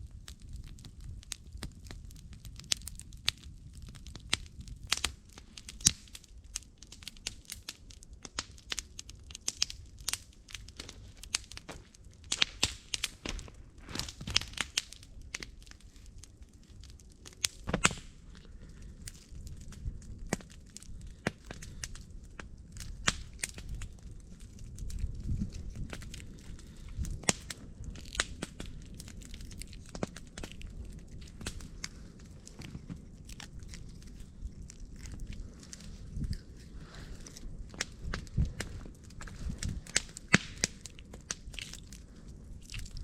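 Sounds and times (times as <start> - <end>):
campfire crackling: 0.0 - 43.0
low fire rumble: 0.0 - 43.0
sharp fire snaps and pops: 0.0 - 43.0.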